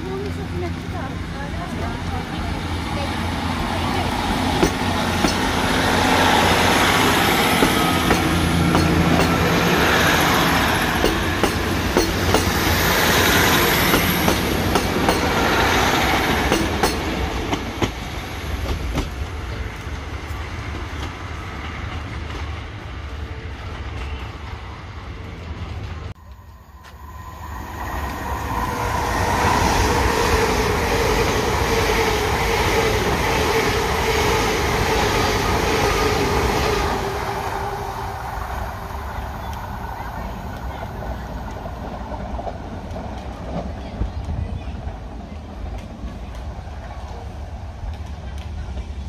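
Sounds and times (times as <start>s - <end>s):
diesel train engines rumbling: 0.0s - 49.0s.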